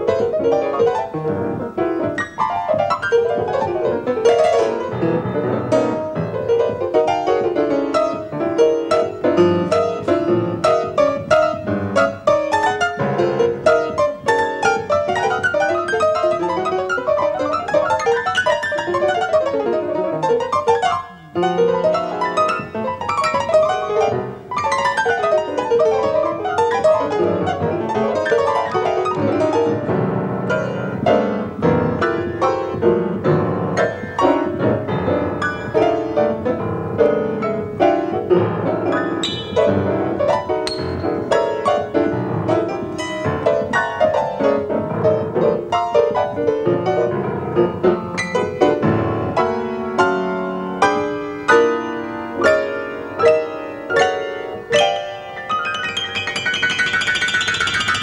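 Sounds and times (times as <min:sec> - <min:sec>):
free jazz piano: 0:00.0 - 0:58.0.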